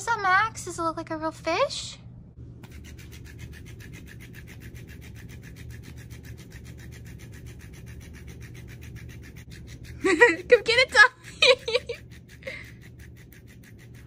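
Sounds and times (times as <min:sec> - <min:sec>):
toy motor humming: 0:02.6 - 0:14.0.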